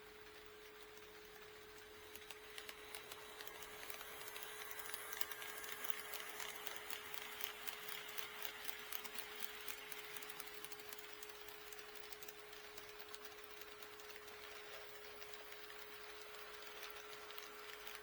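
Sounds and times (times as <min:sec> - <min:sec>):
model train motor whir: 0:00.0 - 0:18.0
model train wheels clicking: 0:00.0 - 0:18.0.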